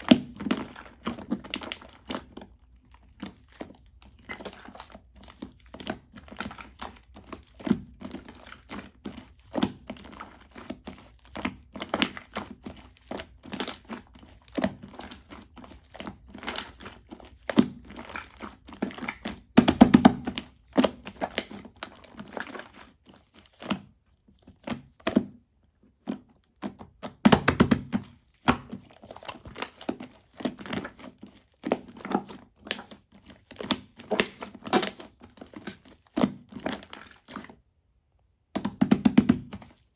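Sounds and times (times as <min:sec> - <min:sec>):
slime squished by hand: 0:00.0 - 0:23.9, 0:24.6 - 0:37.6.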